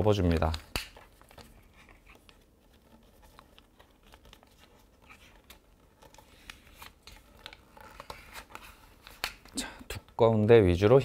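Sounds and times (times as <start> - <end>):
paper rustling and scraping: 0.0 - 9.3.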